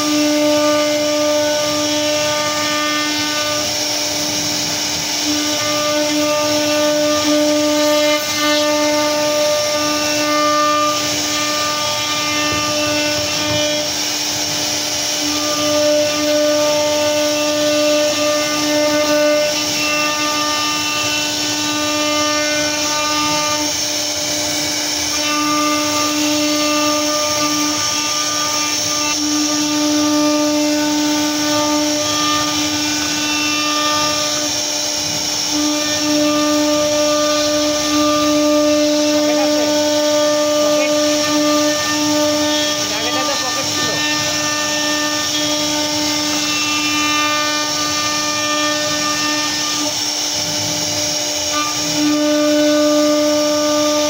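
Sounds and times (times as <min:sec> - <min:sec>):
bit cutting wood hiss: 0:00.0 - 0:54.0
router spindle high whine: 0:00.0 - 0:54.0.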